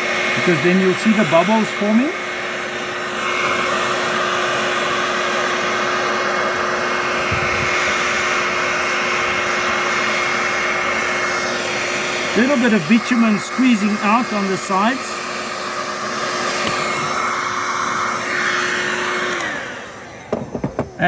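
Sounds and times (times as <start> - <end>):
heat gun blowing hot air: 0.0 - 21.0.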